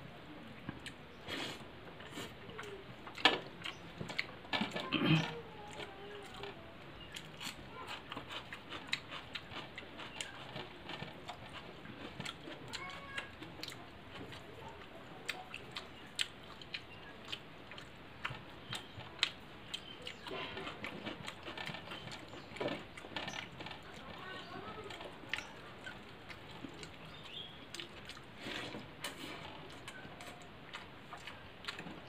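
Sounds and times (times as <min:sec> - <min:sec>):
close-up chewing and mouth sounds: 0:00.6 - 0:32.0.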